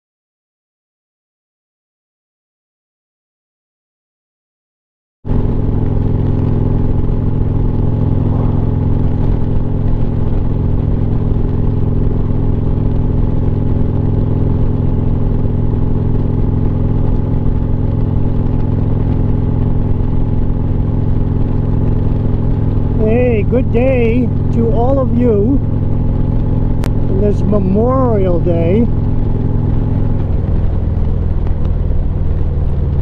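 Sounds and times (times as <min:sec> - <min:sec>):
motorcycle engine cruising: 0:05.3 - 0:33.0.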